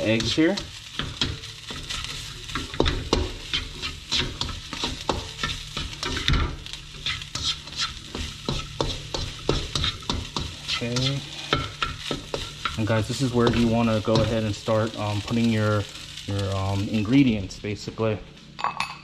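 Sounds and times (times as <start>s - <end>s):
spatula scraping frying pan: 0.0s - 15.2s
food sizzling in oil: 0.0s - 17.8s.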